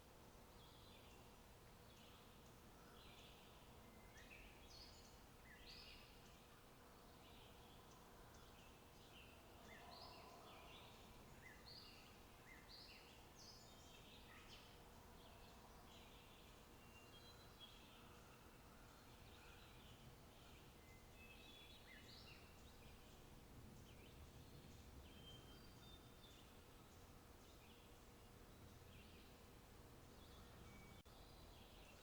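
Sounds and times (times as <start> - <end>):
low steady background hiss: 0.0 - 32.0
faint bird chirps: 2.0 - 29.4, 30.0 - 32.0.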